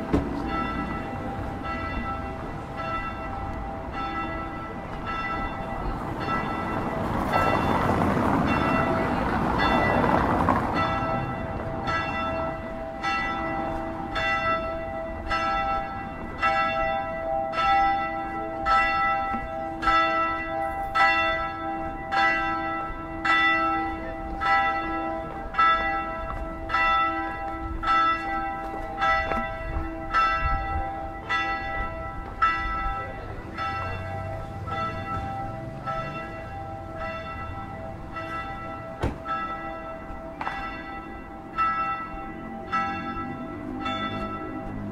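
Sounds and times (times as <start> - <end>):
church bell tolling: 0.0 - 44.9.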